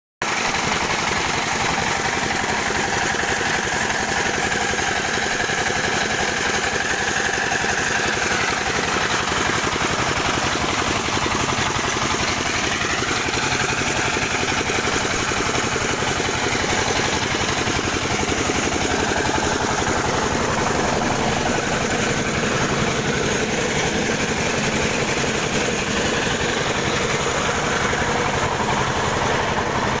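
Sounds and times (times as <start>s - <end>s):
hammer mill drone with rattle: 0.2s - 30.0s.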